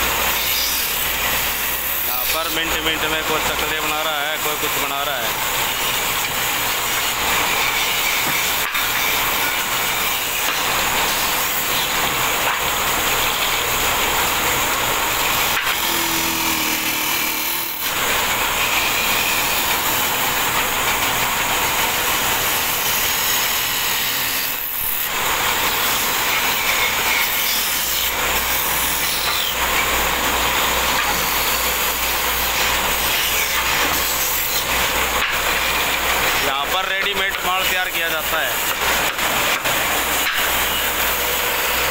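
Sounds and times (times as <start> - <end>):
lathe tool scraping spinning wood: 0.0 - 41.9.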